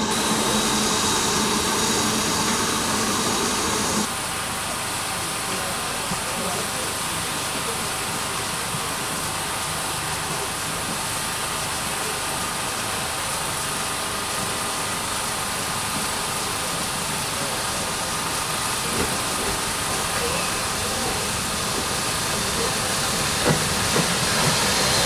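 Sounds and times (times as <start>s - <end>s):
steam locomotive hissing: 0.0s - 25.0s.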